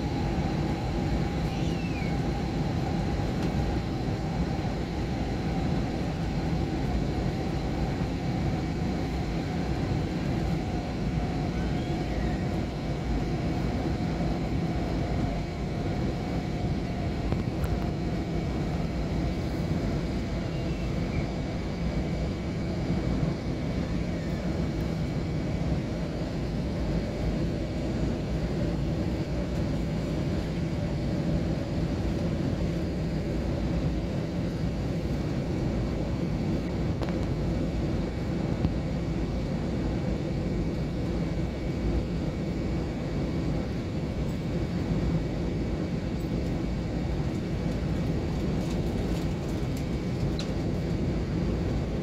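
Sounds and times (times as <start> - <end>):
engines and rushing air rumble: 0.0 - 52.0
faint high whine: 0.0 - 52.0.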